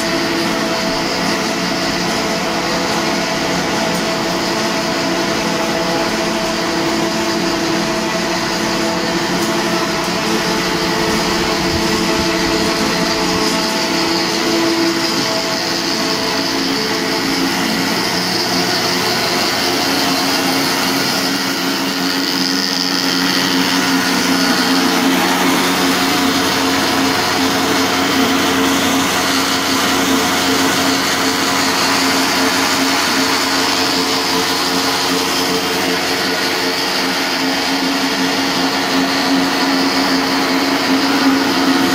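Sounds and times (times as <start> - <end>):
machinery motor drone: 0.0 - 41.9.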